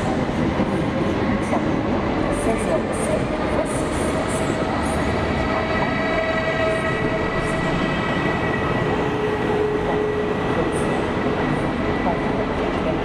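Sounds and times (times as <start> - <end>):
passenger train rumbling on rails: 0.0 - 13.0.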